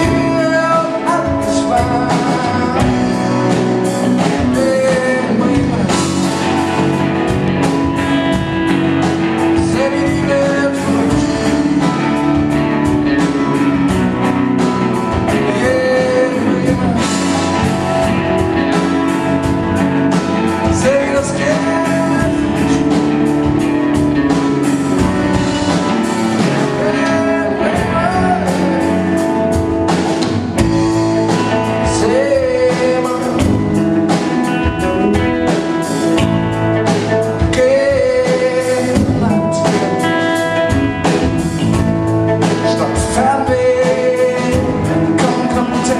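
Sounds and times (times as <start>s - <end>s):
man singing: 0.0s - 7.2s, 9.0s - 18.8s, 19.7s - 24.4s, 25.1s - 30.0s, 30.6s - 45.9s
acoustic guitar: 0.0s - 45.9s
drum kit: 0.0s - 45.9s
electric guitar: 0.0s - 45.9s
keyboard: 0.0s - 45.9s.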